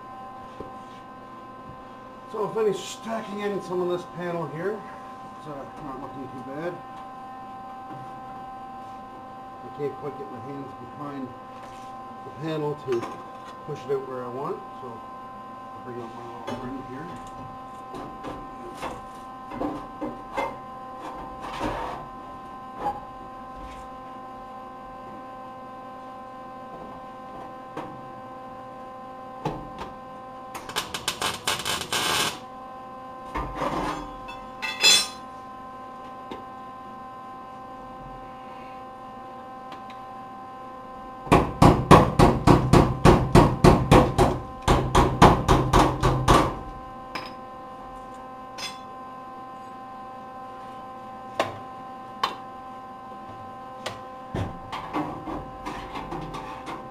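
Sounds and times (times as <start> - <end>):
electrical hum: 0.0 - 56.9.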